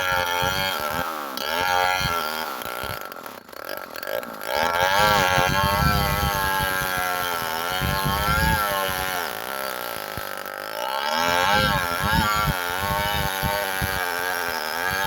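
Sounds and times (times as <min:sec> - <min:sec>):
chainsaw cutting into wood: 0:00.0 - 0:15.0.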